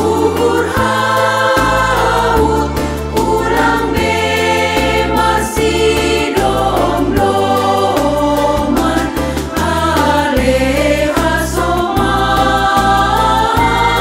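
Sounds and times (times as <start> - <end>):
instrumental accompaniment: 0.0 - 14.0
women's choir singing a hymn: 0.0 - 14.0.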